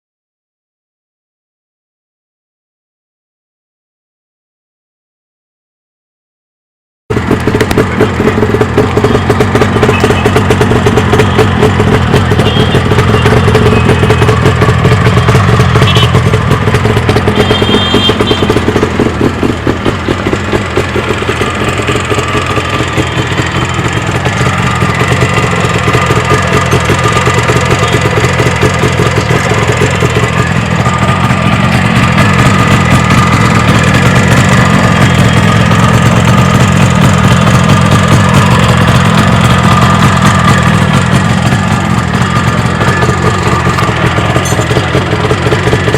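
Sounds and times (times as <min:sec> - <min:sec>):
two-stroke motorcycle engine running: 0:07.1 - 0:45.9.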